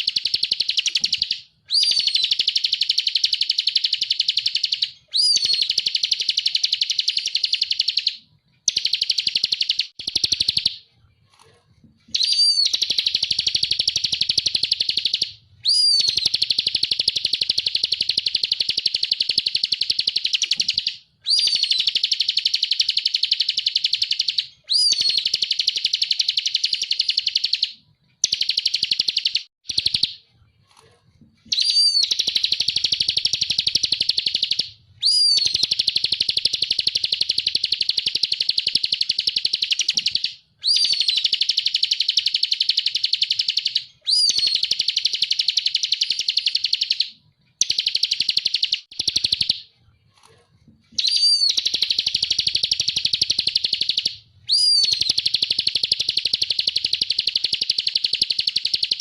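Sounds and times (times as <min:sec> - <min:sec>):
bird singing buzzy trill: 0:00.0 - 0:10.8, 0:12.1 - 0:30.2, 0:31.5 - 0:49.7, 0:51.0 - 0:59.0.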